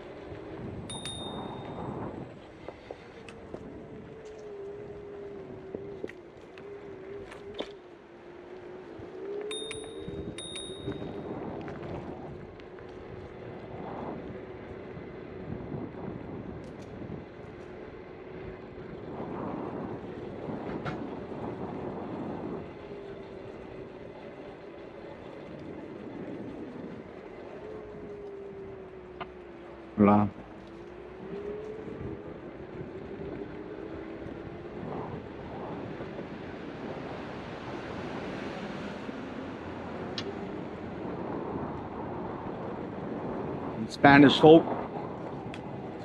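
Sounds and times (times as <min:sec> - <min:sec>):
electric scooter road noise: 0:00.0 - 0:46.0
small wheels rumbling on pavement: 0:00.0 - 0:46.0
wind rushing over microphone: 0:00.0 - 0:46.0.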